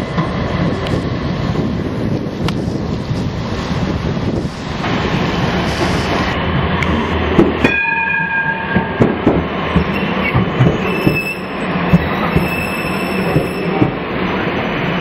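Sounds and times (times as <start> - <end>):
tram wheels clicking over rails: 0.0 - 15.0.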